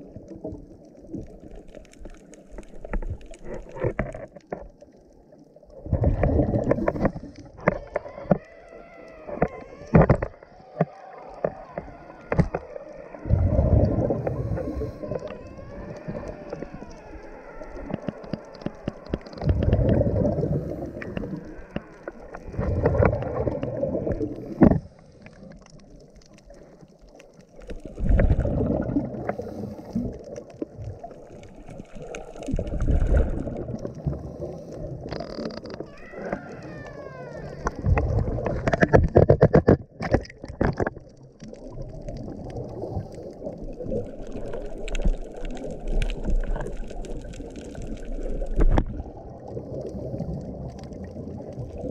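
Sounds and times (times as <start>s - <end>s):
regulator exhaled bubbles rumbling: 5.6s - 10.5s, 11.4s - 26.6s, 27.6s - 51.9s
sharp underwater clicks: 6.0s - 49.0s.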